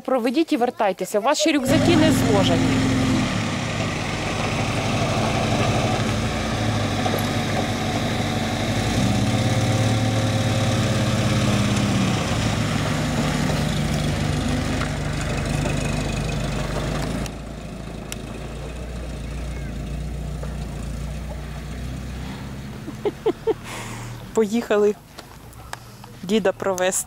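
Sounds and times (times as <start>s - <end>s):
car engine running at low revs: 1.6s - 26.3s.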